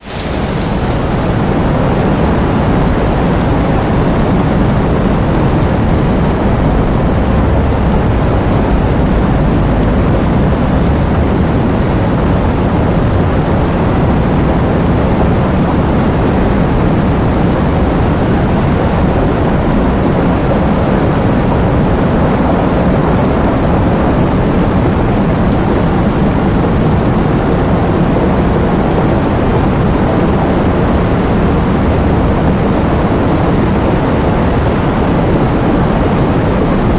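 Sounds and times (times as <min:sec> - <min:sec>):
heavy rain with strong wind: 0:00.0 - 0:36.9.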